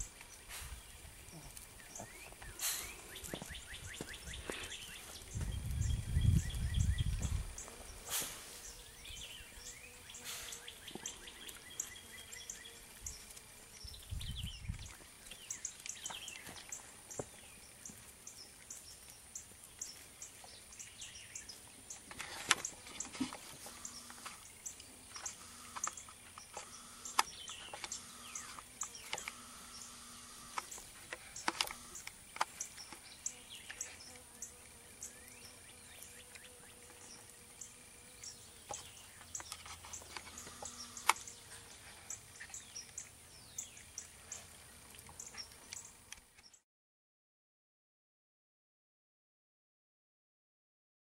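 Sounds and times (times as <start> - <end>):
faint high hiss: 0.0 - 46.1
birds chirping: 0.0 - 46.6.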